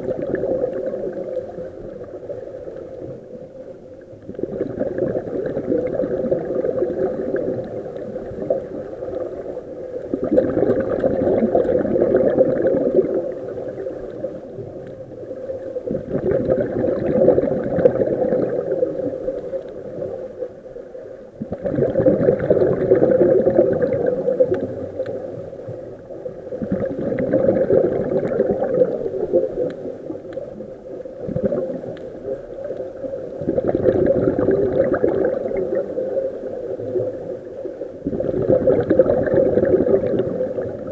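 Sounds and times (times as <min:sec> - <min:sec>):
underwater exhalation bubbling: 0:00.0 - 0:03.3, 0:04.1 - 0:20.3, 0:21.4 - 0:40.9.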